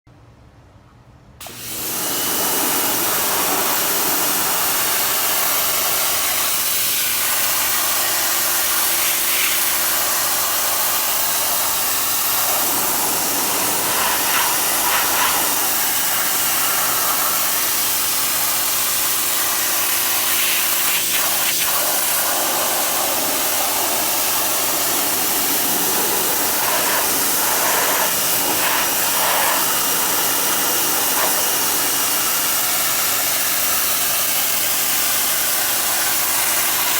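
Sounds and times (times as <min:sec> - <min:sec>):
high-pressure water jet hissing: 0:01.4 - 0:36.9
pressure washer pump drone: 0:01.4 - 0:36.9.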